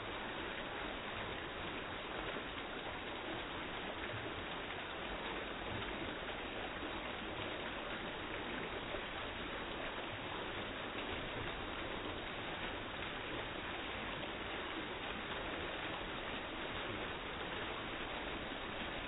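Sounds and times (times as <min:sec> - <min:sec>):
water splashing down rocks: 0:00.0 - 0:19.0.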